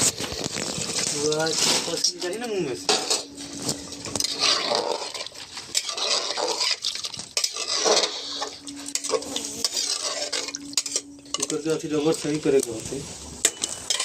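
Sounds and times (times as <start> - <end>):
food sizzling in oil: 0.0 - 14.0
metal spoon scraping a pot: 0.1 - 12.6, 13.4 - 14.0.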